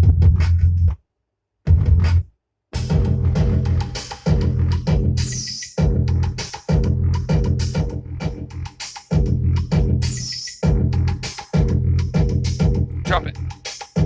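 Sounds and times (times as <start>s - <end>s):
hip-hop drum break: 0.0s - 0.9s, 2.8s - 14.0s.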